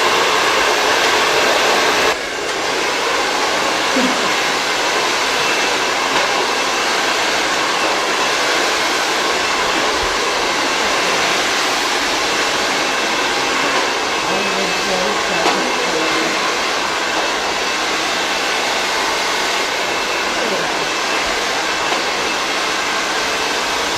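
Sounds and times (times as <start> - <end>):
hair dryer blowing: 0.0 - 23.9.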